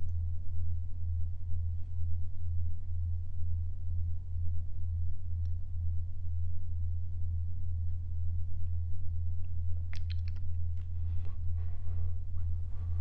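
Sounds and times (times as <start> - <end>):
deep low-pitched drone: 0.0 - 13.0.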